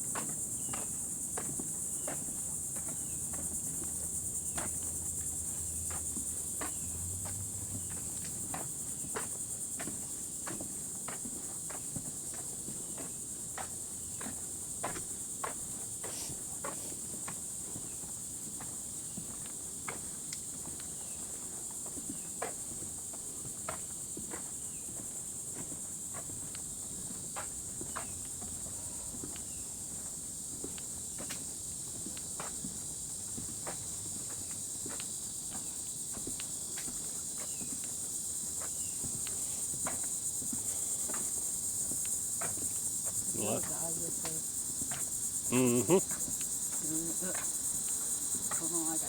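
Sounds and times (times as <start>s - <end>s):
footsteps on a trail: 0.0s - 49.0s
insects droning: 0.0s - 49.0s.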